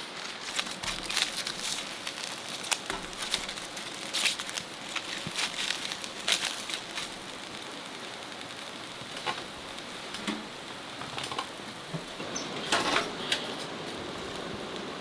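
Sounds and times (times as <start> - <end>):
fire crackling and popping: 0.0 - 15.0
fire hissing: 0.0 - 15.0.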